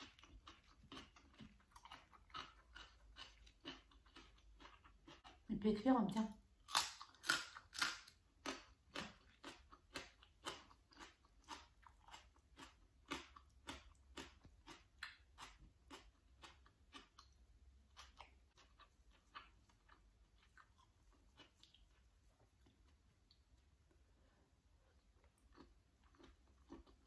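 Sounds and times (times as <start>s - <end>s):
person chewing crunchy vegetable: 0.0s - 5.5s, 6.6s - 24.1s, 24.7s - 27.0s.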